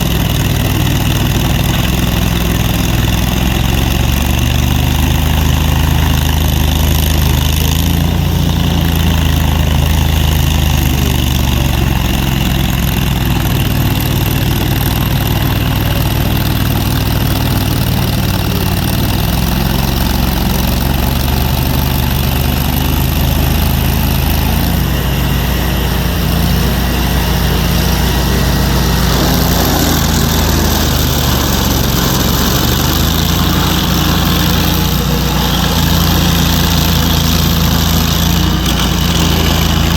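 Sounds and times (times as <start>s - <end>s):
large engine idling: 0.0s - 39.9s.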